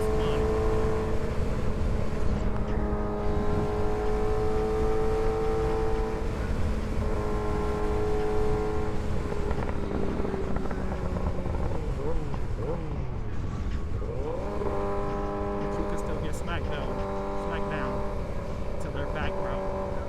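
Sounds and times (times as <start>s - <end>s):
motorcycle engine cruising: 0.0s - 20.0s.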